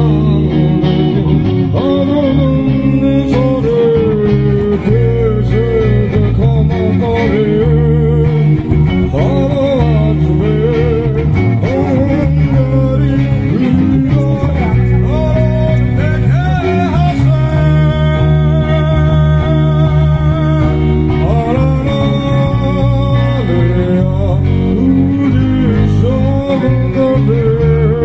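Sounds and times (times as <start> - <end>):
bending guitar melody: 0.0 - 28.0
low bass notes: 0.0 - 28.0.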